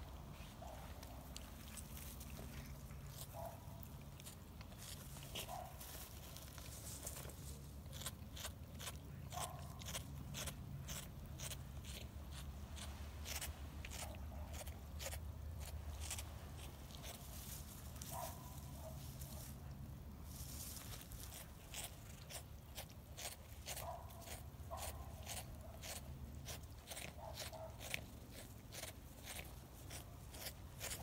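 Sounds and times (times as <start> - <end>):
low steady hum: 0.0 - 31.0
cats chewing crunchy clicks: 0.8 - 6.6, 7.2 - 17.3, 21.2 - 31.0.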